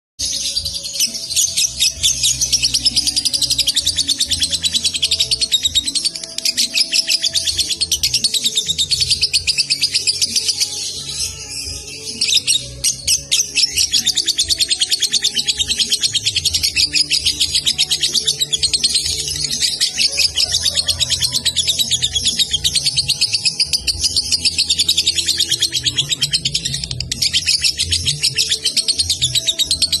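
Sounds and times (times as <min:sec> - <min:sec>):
lovebird high chattering: 0:01.1 - 0:10.8, 0:12.2 - 0:30.0.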